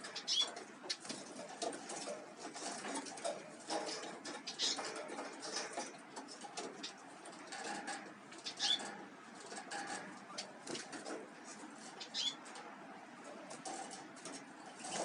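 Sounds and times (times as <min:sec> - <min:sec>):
scratching and tapping: 0:00.0 - 0:15.0
songbirds chirping: 0:00.0 - 0:15.0.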